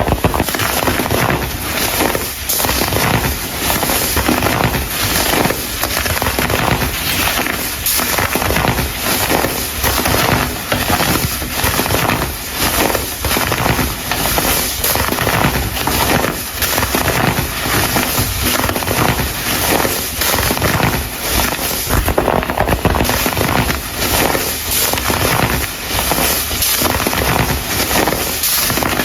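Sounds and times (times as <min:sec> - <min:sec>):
chunks crackling and crunching: 0:00.0 - 0:29.0.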